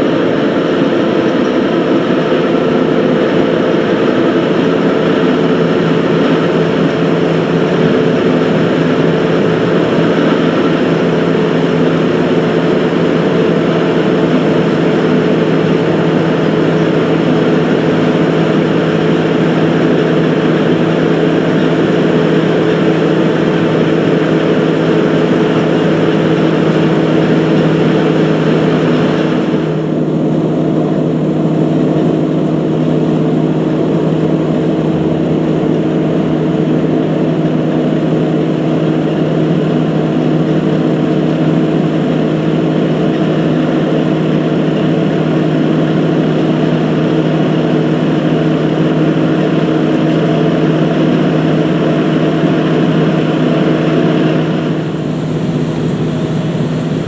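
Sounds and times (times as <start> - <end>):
conveyor machinery droning: 0.0 - 57.0.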